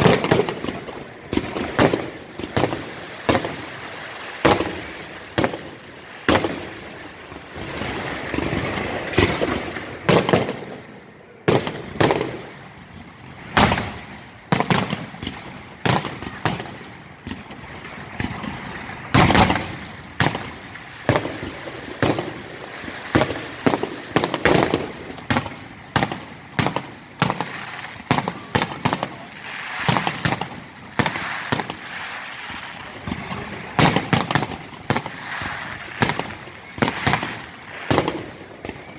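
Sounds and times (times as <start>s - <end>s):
fireworks bursting with bangs: 0.0s - 38.9s
fireworks crackle: 0.0s - 38.9s.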